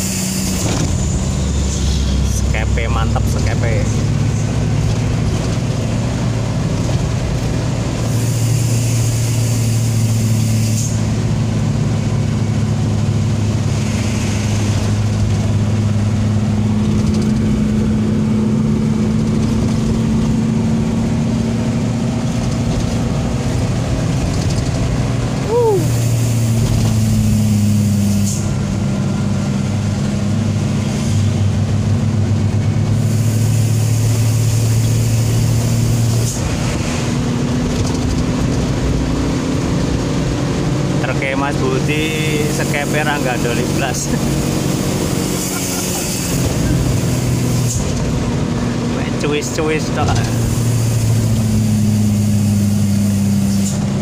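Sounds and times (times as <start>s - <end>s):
diesel truck engine running: 0.0s - 54.0s
road noise: 0.0s - 54.0s.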